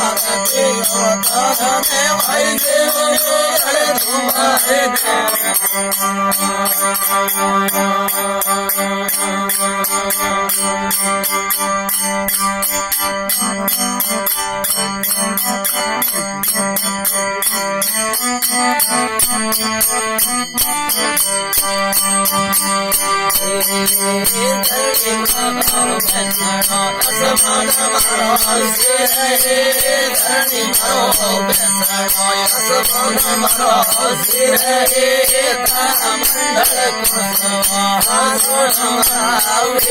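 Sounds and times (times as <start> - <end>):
steady drone: 0.0 - 10.7, 15.4 - 39.9
jingling percussion beat: 0.0 - 39.9
wavering melody line: 0.0 - 39.9.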